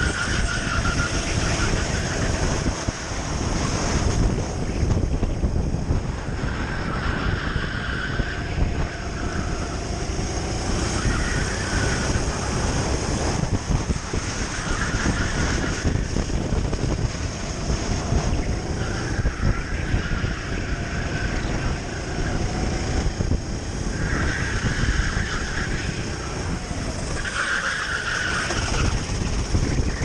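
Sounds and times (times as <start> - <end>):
kart engine running: 0.0 - 7.5, 8.2 - 30.0
wind buffeting microphone: 0.0 - 30.0.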